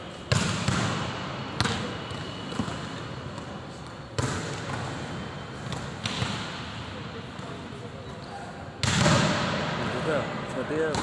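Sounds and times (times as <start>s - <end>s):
volleyball smacks echoing in hall: 0.2s - 7.7s, 8.7s - 11.0s.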